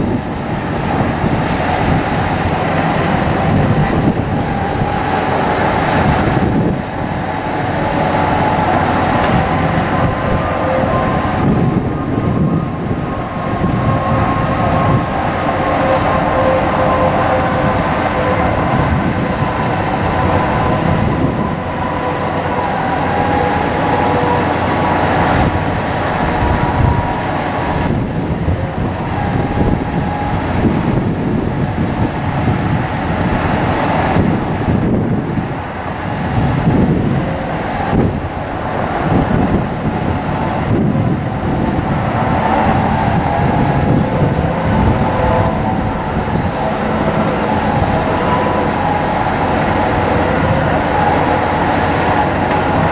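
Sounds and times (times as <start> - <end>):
hydraulic pump whine: 0.0 - 52.9
truck engine rumbling: 0.0 - 52.9.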